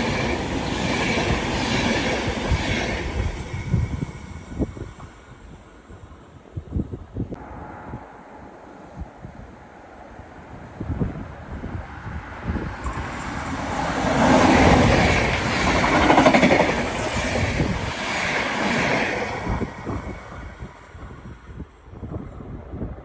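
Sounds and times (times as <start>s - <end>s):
train passing by: 0.0s - 23.0s
wind buffeting microphone: 0.0s - 23.0s.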